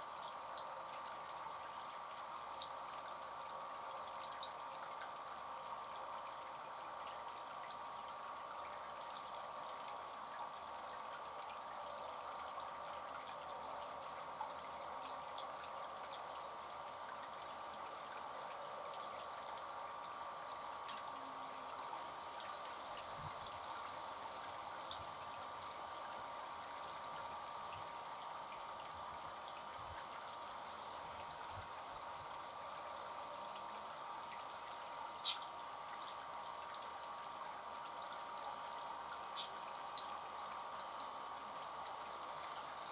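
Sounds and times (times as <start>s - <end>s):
light water drips: 0.0s - 42.9s
water trickling in fountain: 0.0s - 42.9s.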